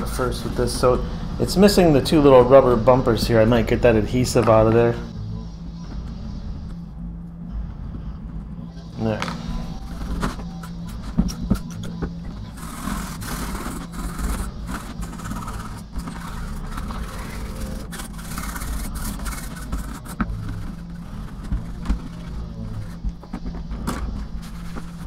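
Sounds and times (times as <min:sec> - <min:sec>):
low machinery drone: 0:00.0 - 0:25.0.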